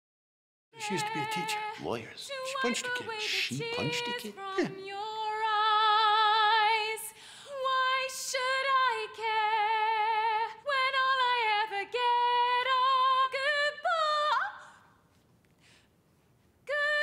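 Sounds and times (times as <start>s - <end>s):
woman singing a cappella: 0.8s - 15.0s, 16.6s - 17.0s.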